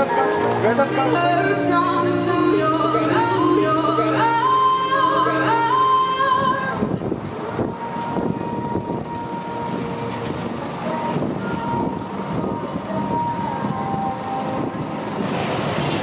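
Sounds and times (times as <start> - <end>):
song with singing: 0.0 - 15.2
rumbling outdoor noise: 0.0 - 16.0.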